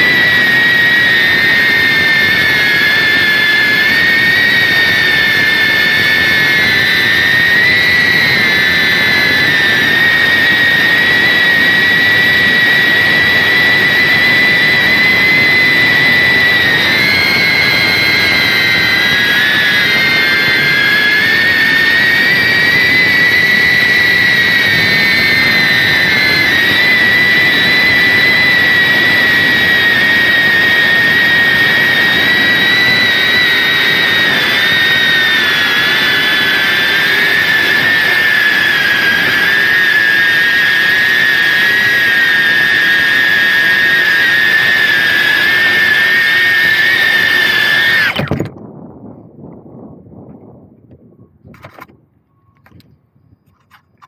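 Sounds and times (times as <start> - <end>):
electric motor and propeller whining: 0.0 - 49.2, 50.2 - 52.0.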